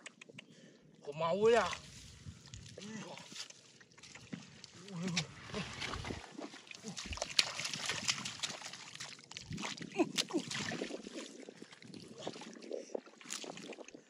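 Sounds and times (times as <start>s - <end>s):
hands splashing in muddy water: 1.9s - 14.0s.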